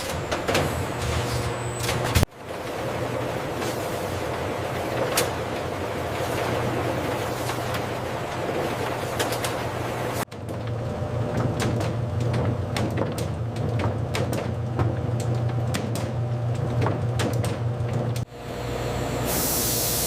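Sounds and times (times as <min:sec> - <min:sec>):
machine humming: 0:00.0 - 0:12.8, 0:14.6 - 0:20.0.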